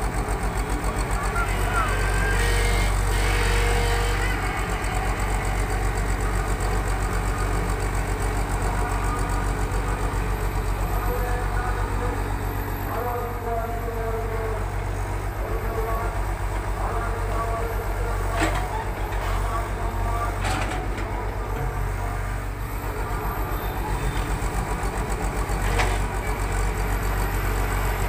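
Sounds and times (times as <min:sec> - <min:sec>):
excavator diesel engine throbbing: 0:00.0 - 0:28.0.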